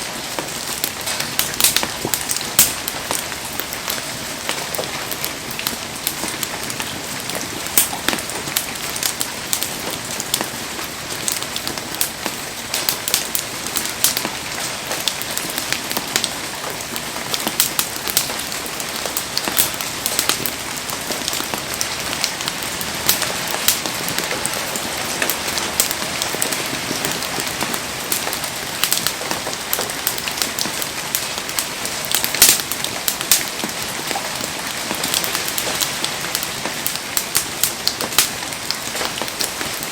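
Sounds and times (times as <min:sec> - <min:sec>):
heavy rain falling: 0:00.0 - 0:39.9
campfire ticks and pops: 0:00.3 - 0:39.9.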